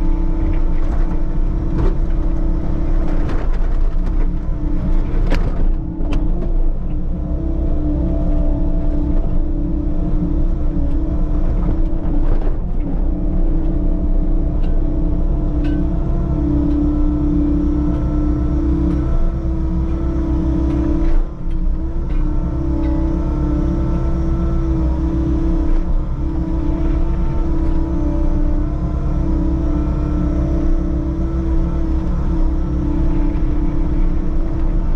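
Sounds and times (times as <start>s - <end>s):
diesel engine running: 0.0s - 34.9s
hydraulic whine: 0.0s - 34.9s.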